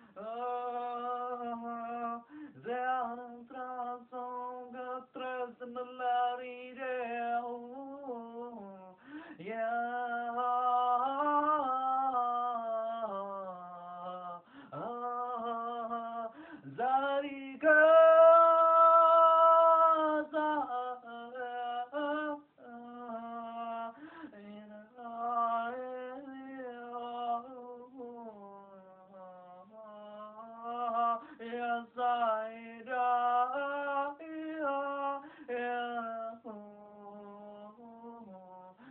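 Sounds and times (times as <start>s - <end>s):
person singing unaccompanied: 0.0s - 38.9s.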